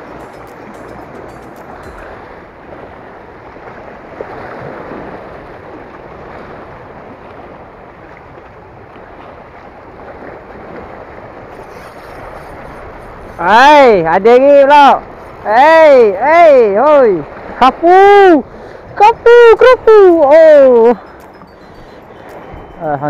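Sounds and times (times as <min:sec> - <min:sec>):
waves splashing against rocks: 0:00.0 - 0:23.0.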